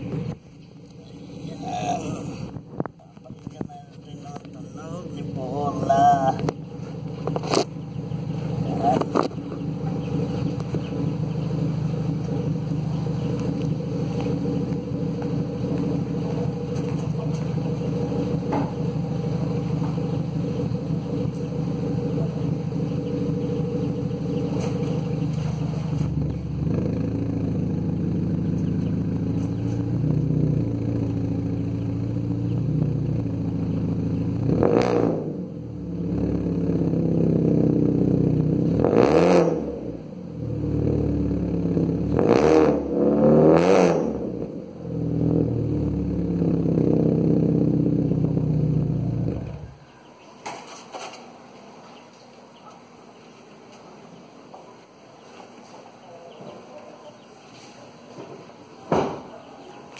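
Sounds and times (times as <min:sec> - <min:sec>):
car exhaust idling and revving: 0:00.0 - 0:50.1.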